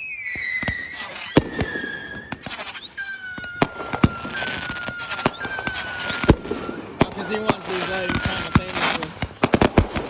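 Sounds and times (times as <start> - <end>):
firework bangs and crackles: 0.0 - 10.0
firework whistle: 0.0 - 10.0.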